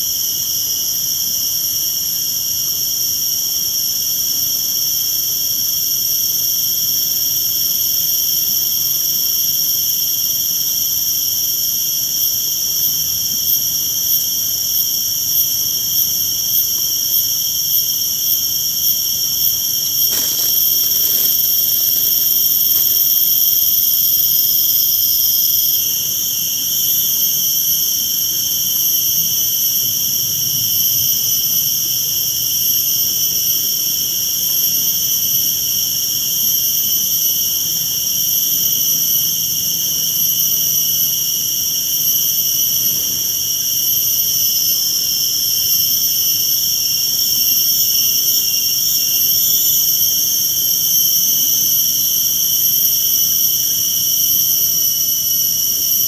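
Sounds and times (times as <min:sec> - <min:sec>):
crickets and cicadas chorus: 0:00.0 - 0:56.0.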